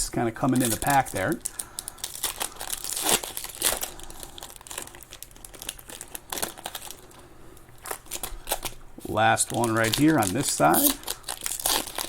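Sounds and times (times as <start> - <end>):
card pack wrappers tearing and crinkling: 0.0 - 7.2, 7.8 - 12.0.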